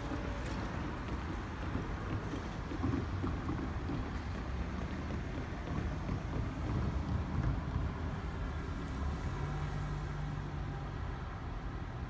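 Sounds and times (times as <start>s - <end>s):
rail and road traffic rumble: 0.0s - 12.0s.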